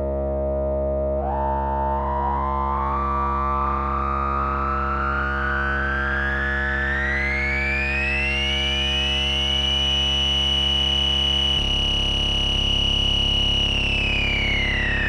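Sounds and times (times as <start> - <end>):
synth bass filter sweep: 0.0 - 15.0.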